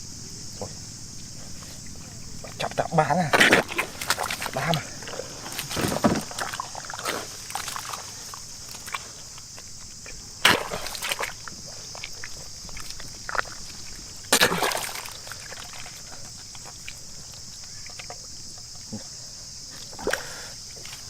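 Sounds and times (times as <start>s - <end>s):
insect chorus: 0.0s - 21.0s
water splashing: 0.6s - 18.4s.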